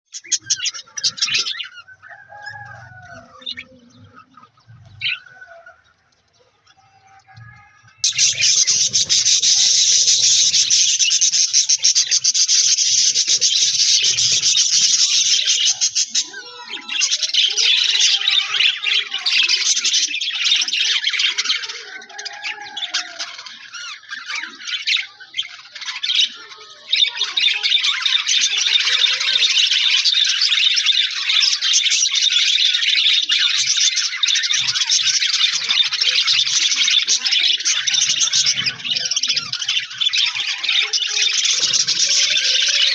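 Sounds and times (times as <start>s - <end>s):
budgerigars chattering and chirping: 0.1s - 42.9s.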